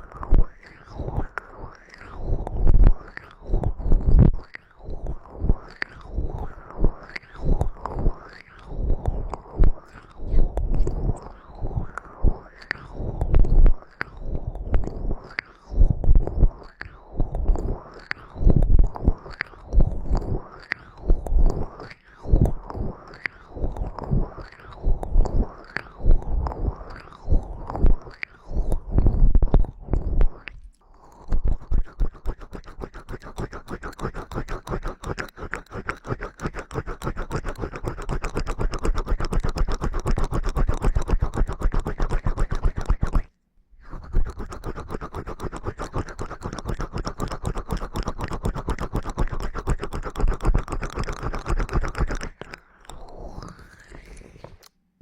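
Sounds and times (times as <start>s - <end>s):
scratching and rubbing on microphone: 2.2s - 30.6s, 31.2s - 54.6s.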